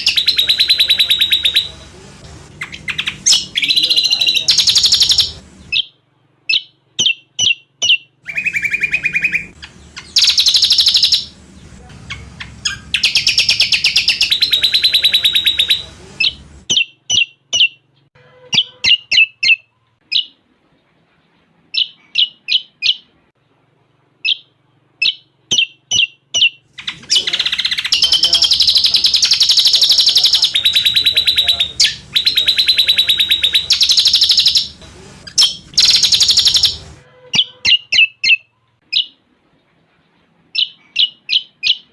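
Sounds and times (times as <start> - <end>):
bird chirping and trilling: 0.0 - 1.9, 2.5 - 20.4, 21.7 - 23.2, 24.2 - 39.2, 40.5 - 41.9.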